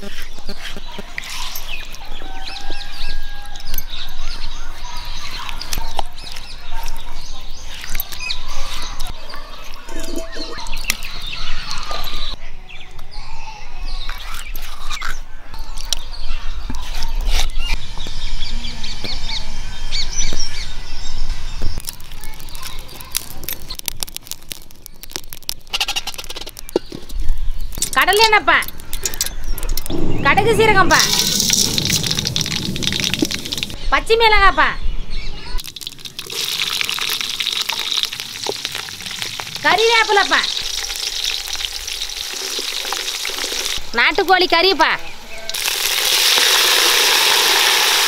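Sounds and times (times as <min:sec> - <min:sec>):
birds chirping: 0:00.0 - 0:45.8.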